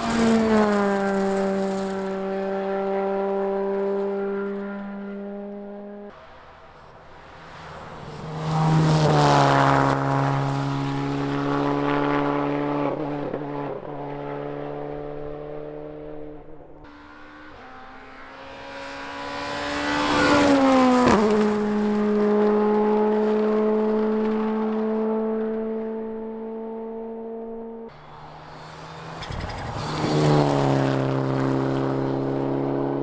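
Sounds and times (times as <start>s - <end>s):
rally cars passing at speed: 0.0s - 33.0s.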